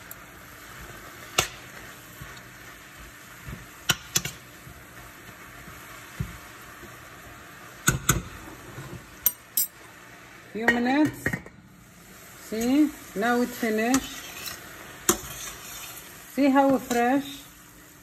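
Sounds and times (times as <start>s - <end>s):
greens sizzling in a pan: 0.0s - 18.0s.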